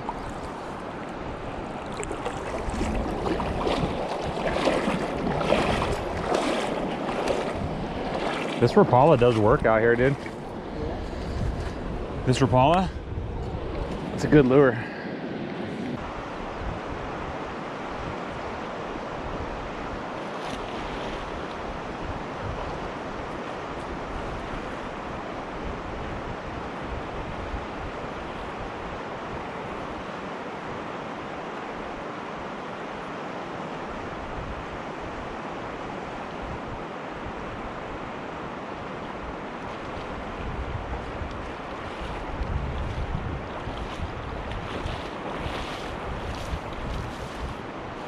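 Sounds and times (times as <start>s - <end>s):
mountain river rushing: 0.0s - 48.0s.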